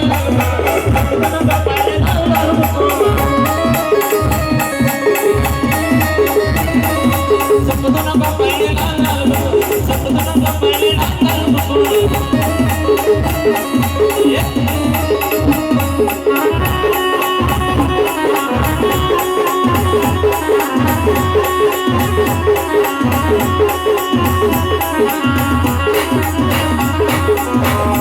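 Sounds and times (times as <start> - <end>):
band playing folk melody: 0.0 - 28.0
heavy drum beat: 0.0 - 28.0
rattling percussion: 0.0 - 28.0.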